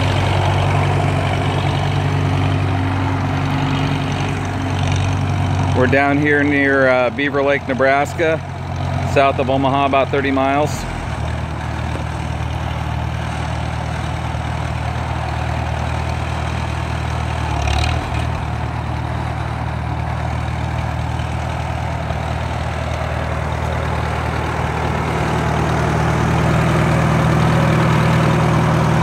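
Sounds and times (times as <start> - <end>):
tractor engine idling: 0.0 - 29.0.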